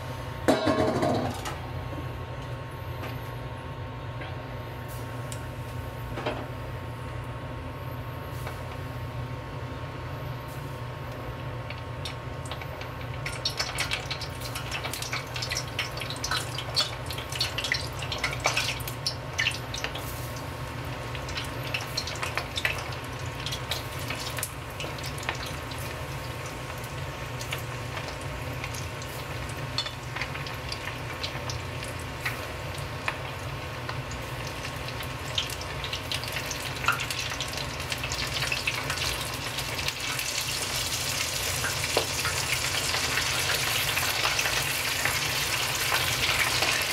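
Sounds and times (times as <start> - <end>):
chicken deep-frying in oil: 8.2 - 46.9.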